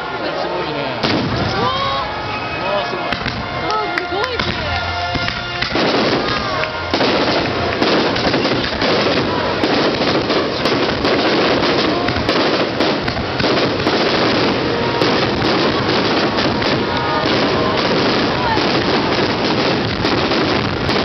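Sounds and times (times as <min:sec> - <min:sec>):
fireworks crackling: 0:00.1 - 0:21.0.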